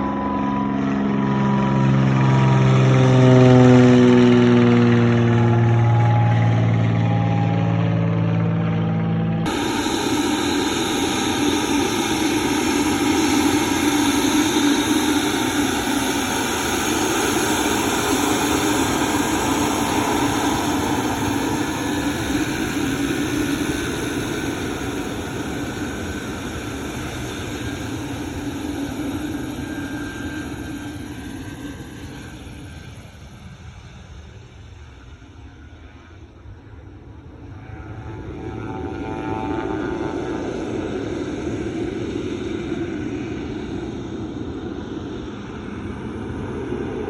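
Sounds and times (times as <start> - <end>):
airplane engine passing: 0.0 - 47.0.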